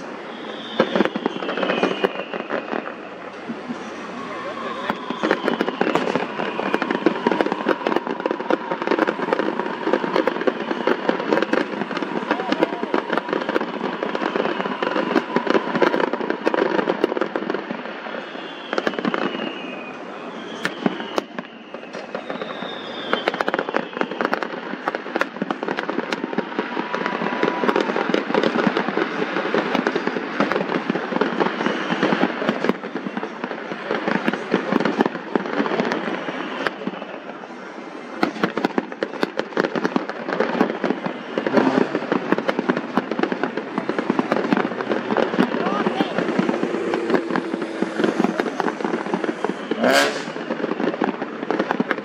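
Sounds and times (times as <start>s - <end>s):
fireworks popping and crackling: 0.0s - 52.0s
fireworks whistling: 0.0s - 52.0s.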